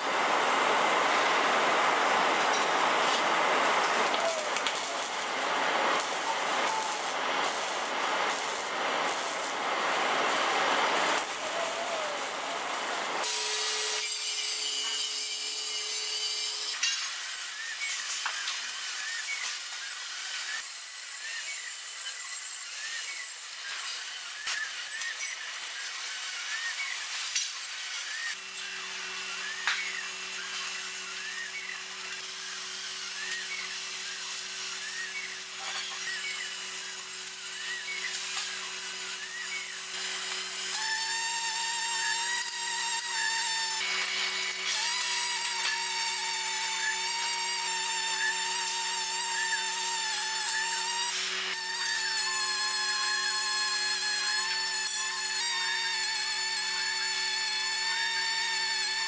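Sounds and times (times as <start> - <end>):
welding arc crackling and hissing: 0.0 - 59.0.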